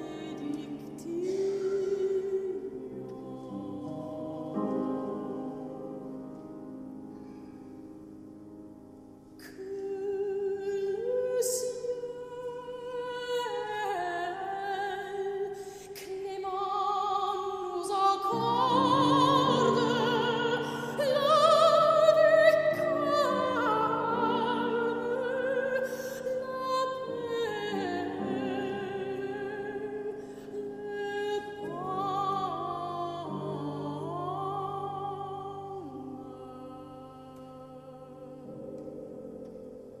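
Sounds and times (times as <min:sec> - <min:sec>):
operatic soprano singing: 0:00.0 - 0:06.4, 0:09.4 - 0:39.5.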